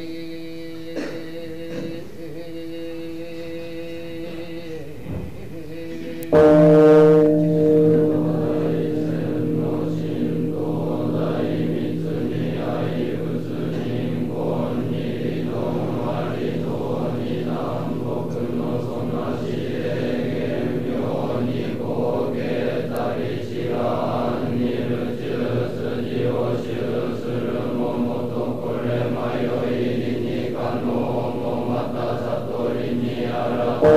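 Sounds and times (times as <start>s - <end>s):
monks chanting in unison: 0.0s - 33.9s.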